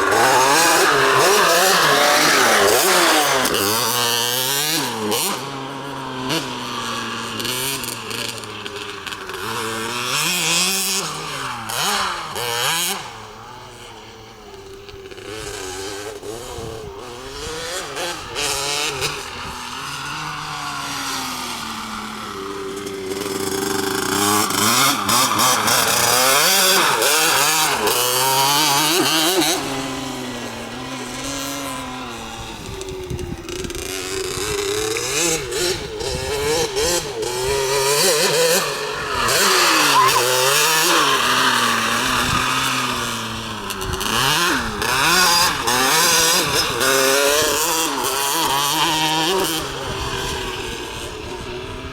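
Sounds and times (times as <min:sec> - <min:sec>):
two-stroke dirt bike revving: 0:00.0 - 0:51.9.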